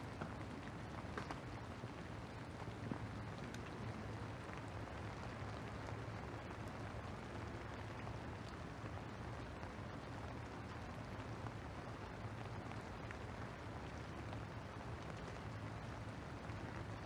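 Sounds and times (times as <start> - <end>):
light rain on wet paving: 0.0 - 17.0
low steady hum: 0.0 - 17.0.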